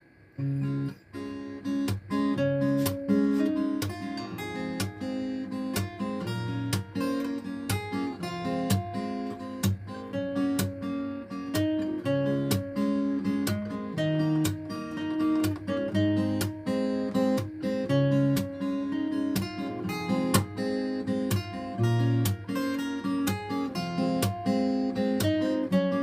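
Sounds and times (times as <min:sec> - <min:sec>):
acoustic guitar playing: 0:00.3 - 0:26.0.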